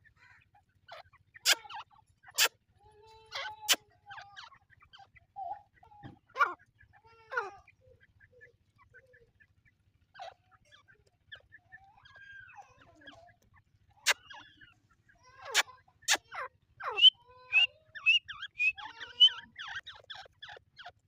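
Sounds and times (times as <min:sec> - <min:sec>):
francolins calling: 0:00.0 - 0:02.6, 0:03.3 - 0:21.0.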